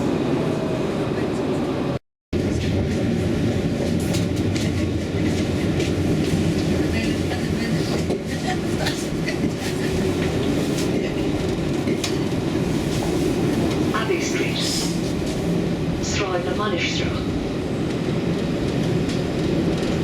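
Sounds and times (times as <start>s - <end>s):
tram rumbling on tracks: 0.0s - 20.0s.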